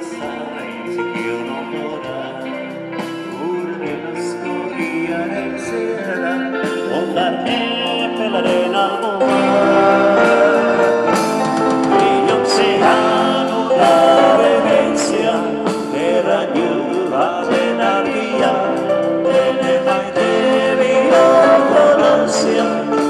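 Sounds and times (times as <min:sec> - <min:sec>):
live band playing: 0:00.0 - 0:23.0
person singing: 0:00.0 - 0:23.0.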